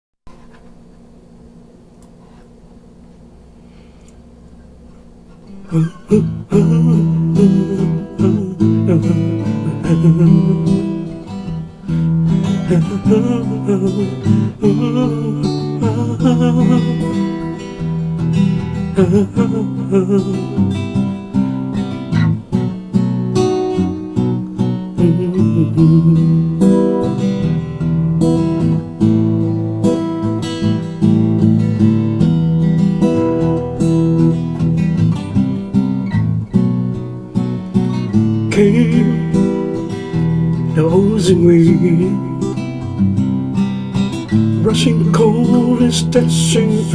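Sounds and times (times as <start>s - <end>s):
acoustic guitar playing: 3.6s - 46.9s.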